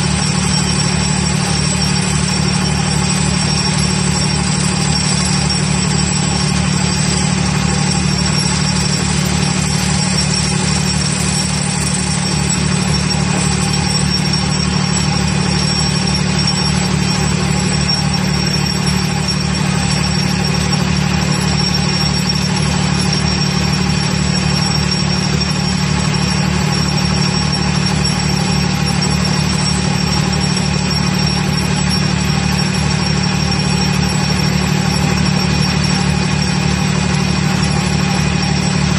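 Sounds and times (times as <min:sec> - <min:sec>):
vibratory pile driver droning: 0:00.0 - 0:38.9.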